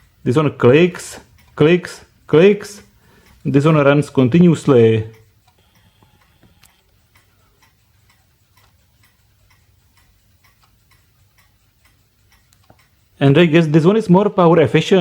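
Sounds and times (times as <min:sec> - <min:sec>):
faint clock ticks: 0:00.0 - 0:15.0.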